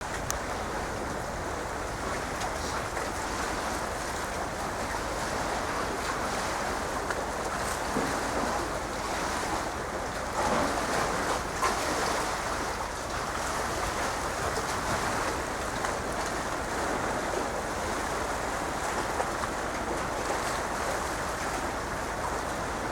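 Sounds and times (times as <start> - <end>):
waves: 0.0 - 22.9
wind: 0.0 - 22.9.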